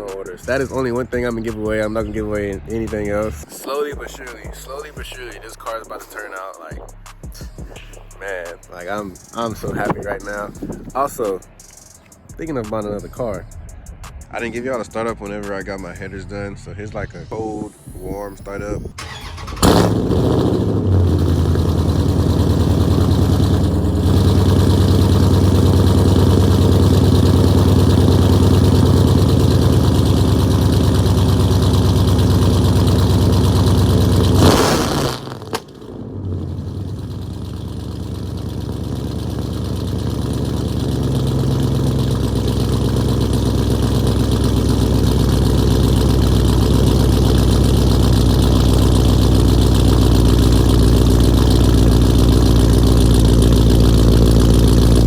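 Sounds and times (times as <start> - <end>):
car engine idling: 0.0 - 17.0, 18.0 - 55.0
car engine starting: 0.0 - 55.0.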